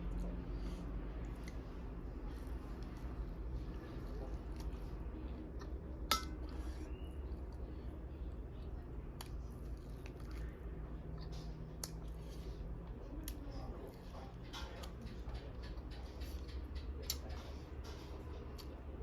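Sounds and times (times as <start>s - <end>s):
wet chewing: 0.0s - 18.8s
steady low hum: 0.0s - 19.0s.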